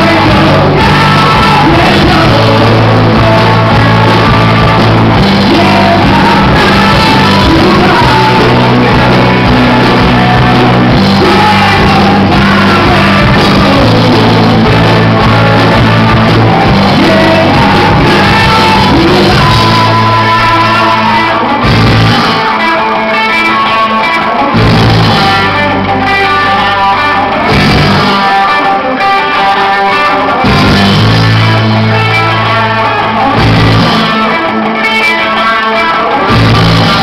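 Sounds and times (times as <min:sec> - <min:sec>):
live rock band playing: 0:00.0 - 0:37.0
man singing: 0:00.0 - 0:37.0.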